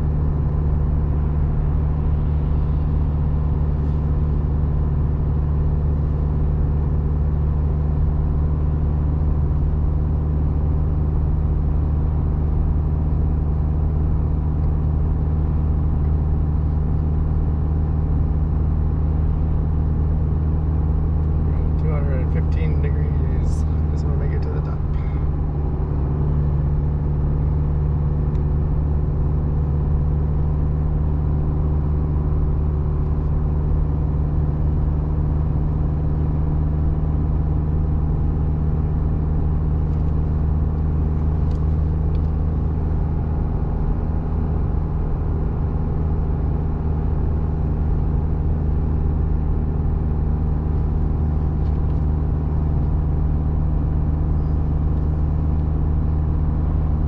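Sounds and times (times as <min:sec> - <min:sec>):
car engine droning uphill: 0:00.0 - 0:57.0.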